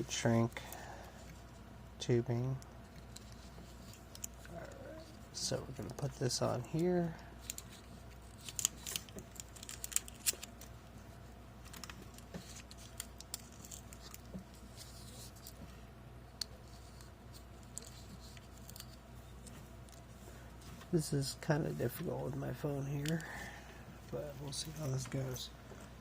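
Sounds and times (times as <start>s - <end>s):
faint steady hum: 0.0s - 26.0s
wires and tubing being handled: 0.0s - 26.0s.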